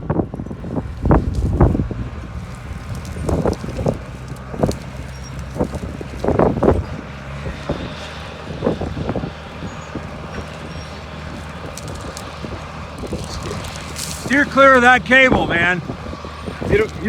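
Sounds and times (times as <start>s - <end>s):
bulldozer diesel engine under load: 0.0s - 17.0s
wind buffeting microphone: 0.0s - 17.0s.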